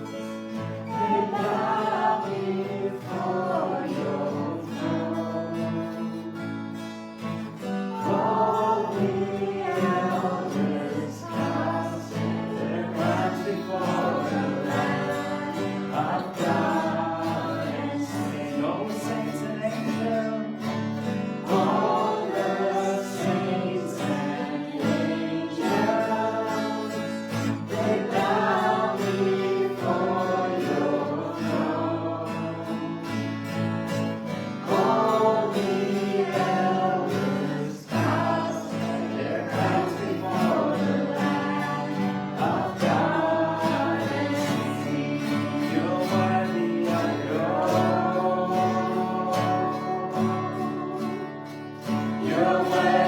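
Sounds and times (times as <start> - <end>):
guitar accompaniment: 0.0 - 53.0
people singing together: 0.0 - 53.0.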